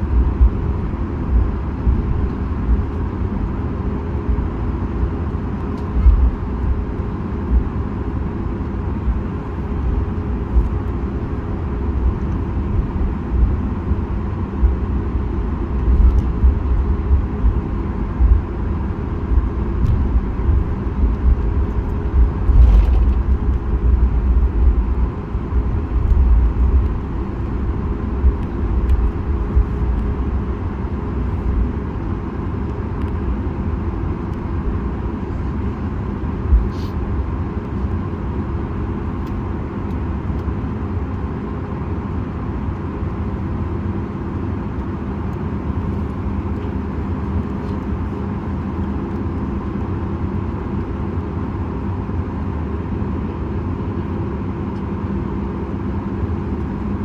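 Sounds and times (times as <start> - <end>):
jet engine hum: 0.0 - 57.0
wheels rumbling: 0.0 - 57.0.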